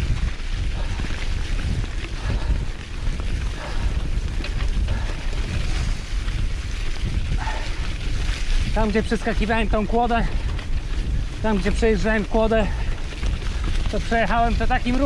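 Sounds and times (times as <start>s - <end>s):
bike rattling over bumps: 0.0s - 15.0s
bike tyres rolling on leaves: 0.0s - 15.0s
wind noise on microphone: 0.0s - 15.0s.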